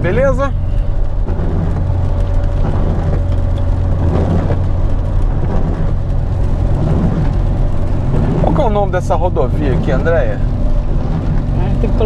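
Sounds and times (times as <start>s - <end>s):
car engine and tyre drone: 0.0s - 12.0s
tyres hissing on wet road: 0.0s - 12.0s.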